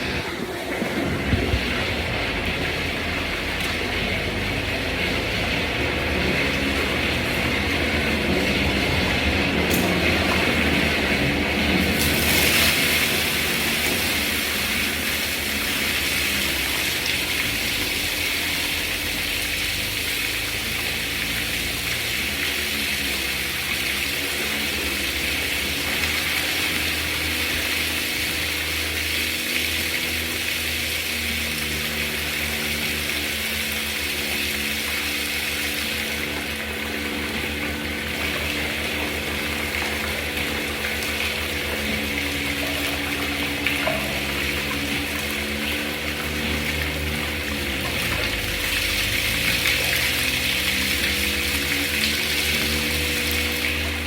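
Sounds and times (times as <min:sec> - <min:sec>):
liquid rushing through pipes: 0:00.0 - 0:54.0
low mechanical hum: 0:00.0 - 0:54.0
milking machinery running: 0:00.0 - 0:54.0.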